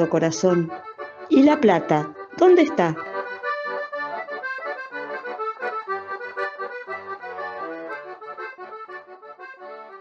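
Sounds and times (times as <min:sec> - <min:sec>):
accordion music: 0:00.0 - 0:10.0.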